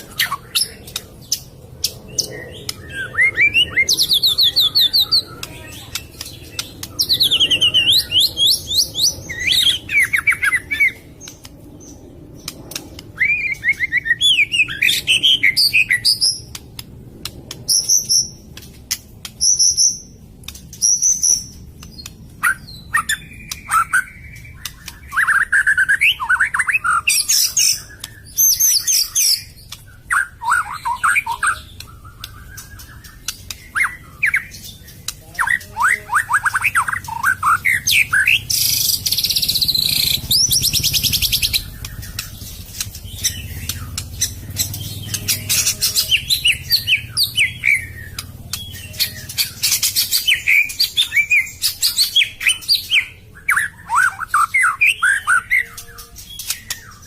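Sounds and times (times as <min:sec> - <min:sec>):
songbird whistling and trilling: 0:02.0 - 0:16.6, 0:19.3 - 0:57.0.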